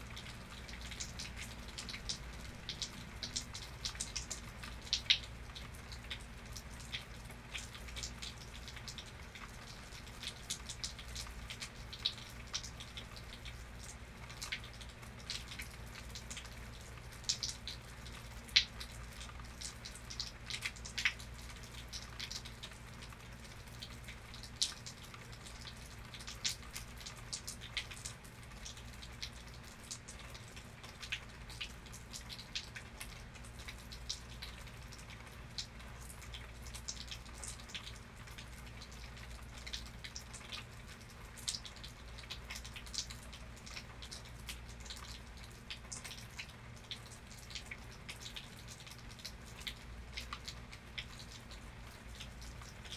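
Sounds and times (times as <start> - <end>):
faint hiss of rain: 0.0 - 52.9
raindrops tapping on a surface: 0.0 - 52.9.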